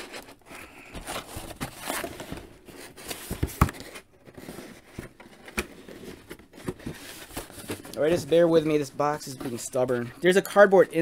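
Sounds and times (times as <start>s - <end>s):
cardboard scraping and rustling: 0.0s - 10.1s.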